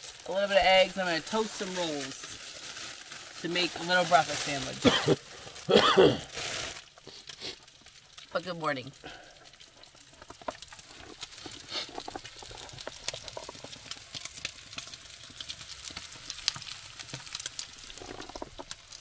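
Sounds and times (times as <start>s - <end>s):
bacon sizzling in a skillet: 0.0s - 19.0s.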